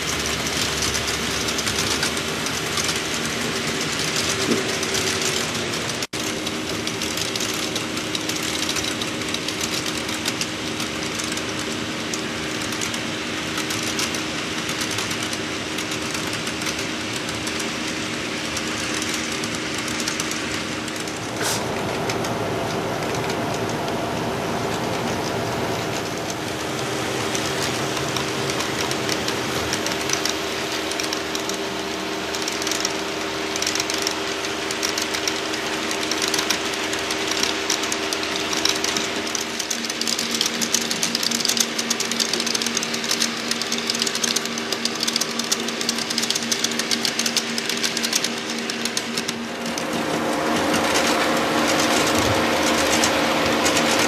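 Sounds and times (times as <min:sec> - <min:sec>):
model train motor hum: 0:00.0 - 0:54.0
wheels clicking over rail joints: 0:00.0 - 0:54.0.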